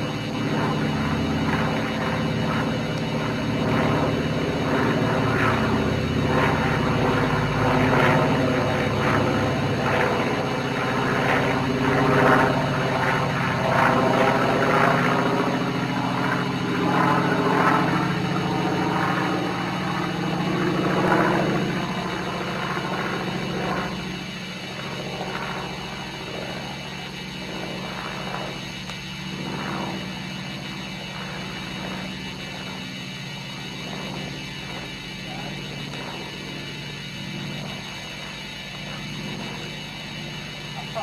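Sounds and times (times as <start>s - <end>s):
propeller plane flying overhead: 0.0s - 41.0s.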